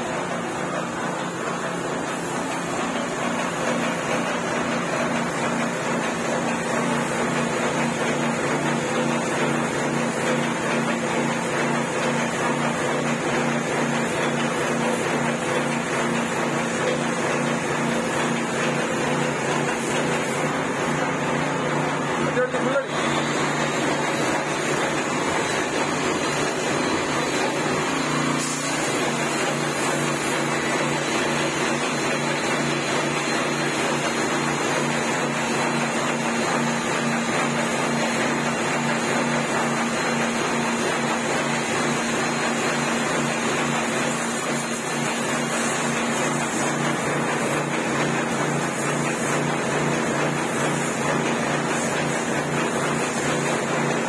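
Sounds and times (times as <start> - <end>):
spray machine hum: 0.0 - 54.0.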